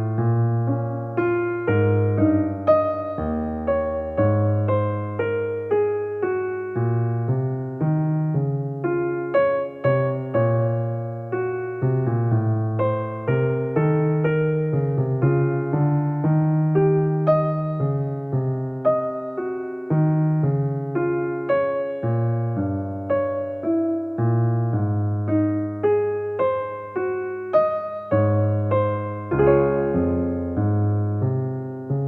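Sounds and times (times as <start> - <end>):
solo electric piano melody: 0.0 - 32.0.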